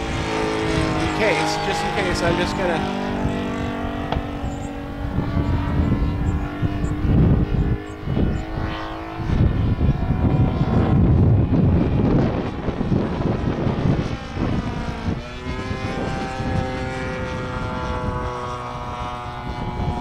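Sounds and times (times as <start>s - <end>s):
model plane propeller drone: 0.0s - 20.0s.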